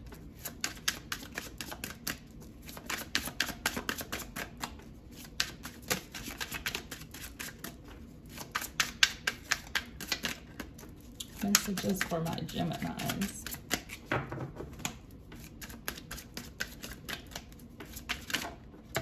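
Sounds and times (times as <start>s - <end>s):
cards being shuffled by hand: 0.0s - 19.0s.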